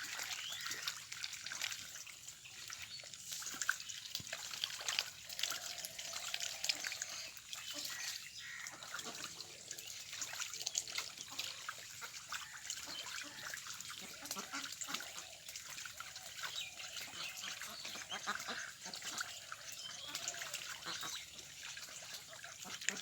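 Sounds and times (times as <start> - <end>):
ducks splashing in water: 0.0 - 23.0.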